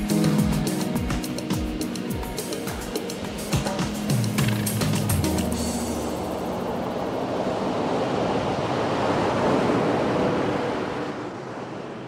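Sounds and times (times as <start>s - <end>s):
ocean surf washing in: 0.0s - 12.0s.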